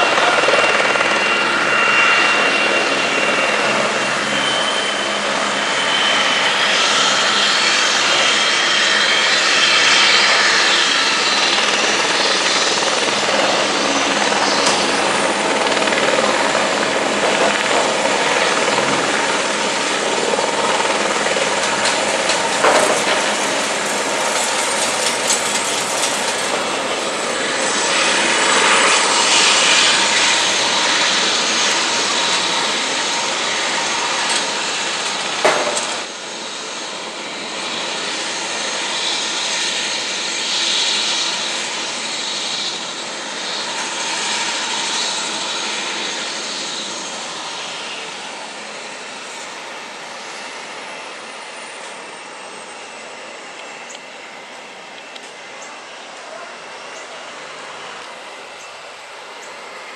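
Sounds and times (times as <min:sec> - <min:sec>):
helicopter turbine and rotor: 0:00.0 - 0:59.9
turboprop airplane engine: 0:00.0 - 0:59.9.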